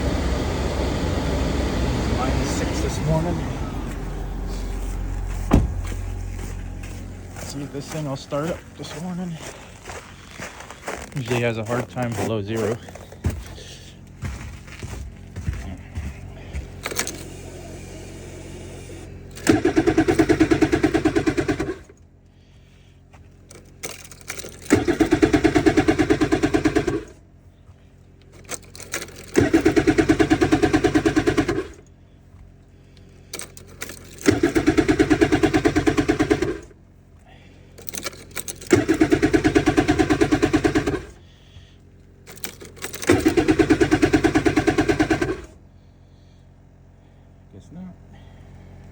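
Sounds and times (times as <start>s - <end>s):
snowmobile engine cranking: 0.0s - 15.5s, 16.2s - 46.4s.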